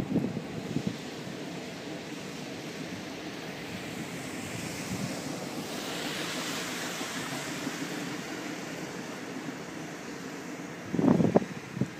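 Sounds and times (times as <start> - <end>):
freight train wheels rumbling: 0.0 - 11.9.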